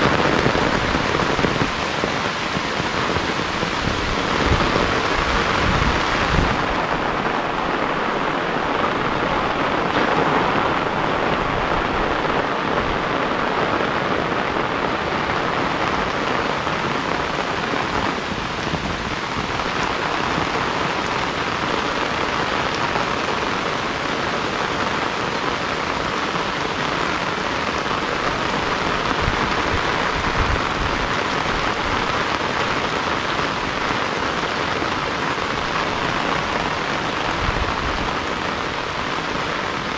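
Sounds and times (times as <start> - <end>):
heavy rain falling: 0.0 - 39.9
low wind gusts: 0.0 - 39.9.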